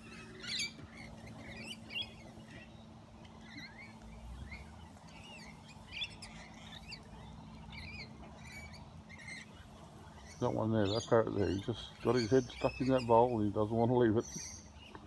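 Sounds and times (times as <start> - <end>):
parrots chirping and squeaking: 0.0 - 15.0.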